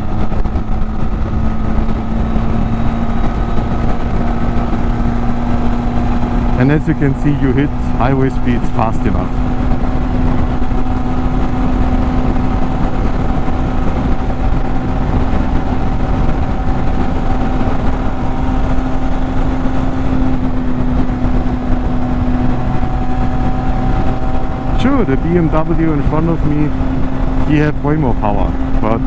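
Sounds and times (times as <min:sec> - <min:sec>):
motorcycle engine at steady revs: 0:00.0 - 0:29.0
wind and road noise: 0:00.0 - 0:29.0.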